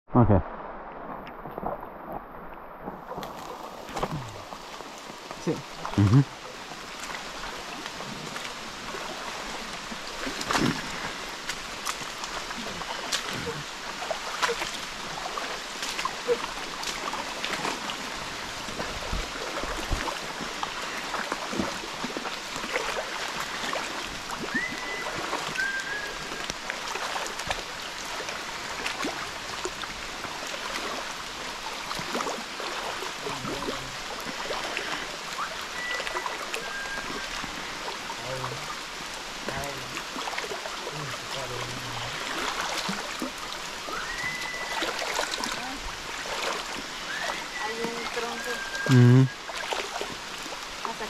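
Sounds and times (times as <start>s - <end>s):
people wading through water: 0.2s - 51.0s.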